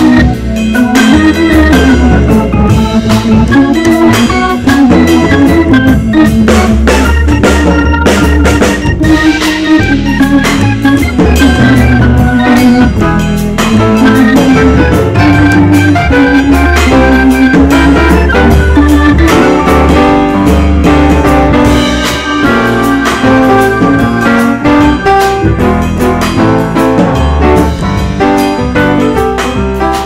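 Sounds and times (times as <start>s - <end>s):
instrumental music with bass: 0.0s - 30.0s.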